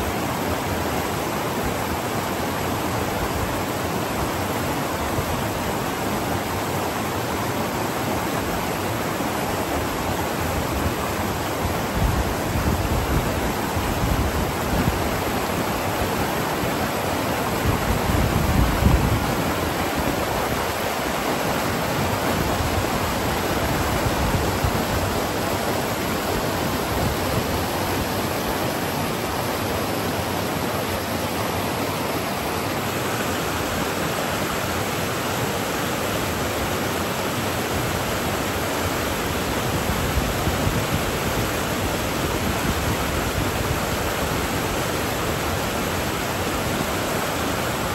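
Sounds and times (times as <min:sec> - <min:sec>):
river rapids rushing: 0:00.0 - 0:47.9.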